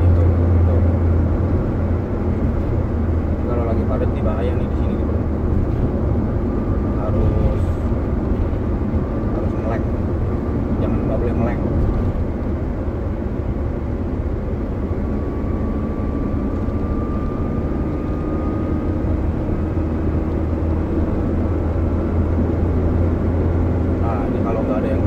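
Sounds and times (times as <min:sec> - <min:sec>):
car engine and road drone: 0:00.0 - 0:25.0.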